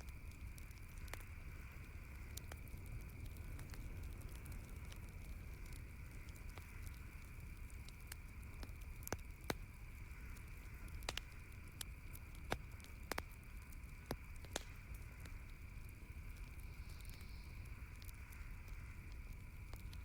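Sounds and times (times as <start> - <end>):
campfire crackling: 0.0 - 20.0
faint background hum and hiss: 0.0 - 20.0.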